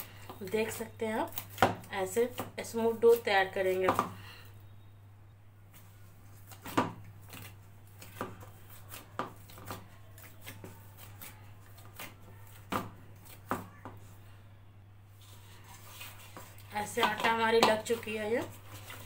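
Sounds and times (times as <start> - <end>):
dough kneaded in metal bowl: 0.0 - 4.2, 5.7 - 14.2, 15.1 - 19.0.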